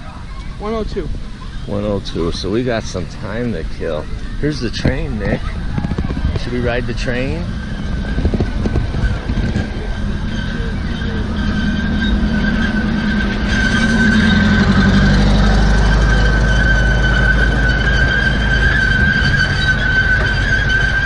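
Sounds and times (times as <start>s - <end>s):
miniature train engine rumbling: 1.4s - 21.0s
train wheels squealing on rails: 3.9s - 21.0s.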